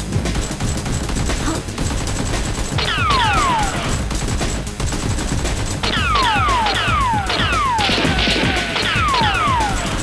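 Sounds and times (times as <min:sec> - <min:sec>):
gunfire sound effects: 0:00.3 - 0:10.0.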